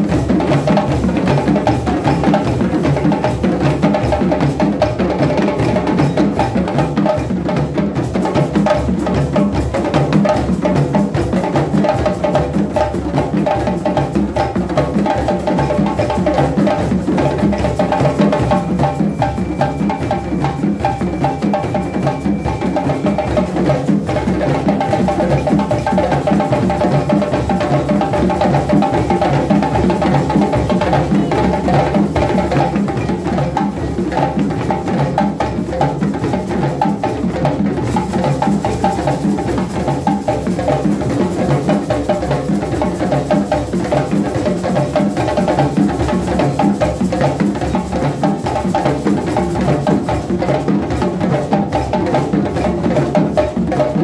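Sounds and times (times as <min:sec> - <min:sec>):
djembe hand drums: 0:00.0 - 0:54.0.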